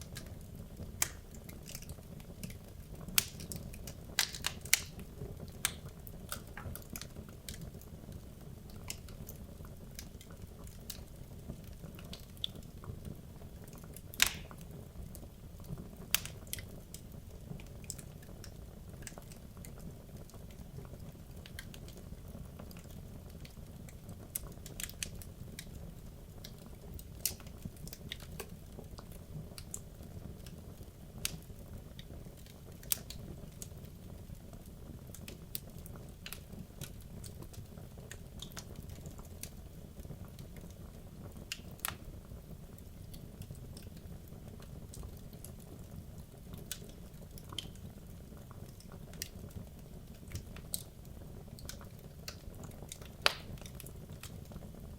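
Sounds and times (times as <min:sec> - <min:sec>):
low rumble of flames: 0:00.0 - 0:54.9
wood crackling and popping: 0:00.0 - 0:54.9.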